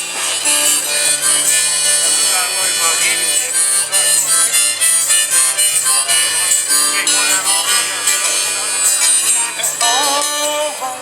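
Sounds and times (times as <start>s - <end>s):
live band playing: 0.0s - 11.0s
reedy lead melody: 0.0s - 11.0s.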